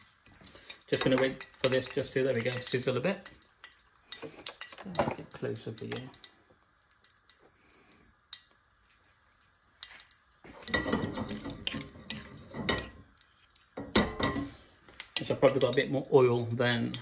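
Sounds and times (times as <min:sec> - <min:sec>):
seeds popping in hot oil: 0:00.0 - 0:17.0.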